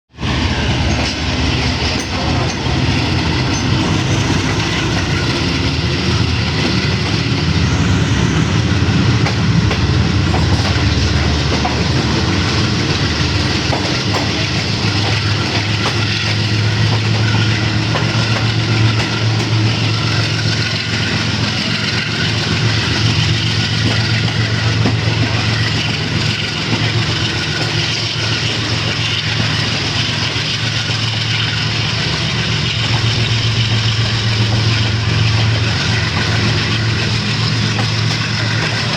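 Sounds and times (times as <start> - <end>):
diesel locomotive roaring: 0.1 - 38.9
train wheels clattering on rails: 0.2 - 38.9.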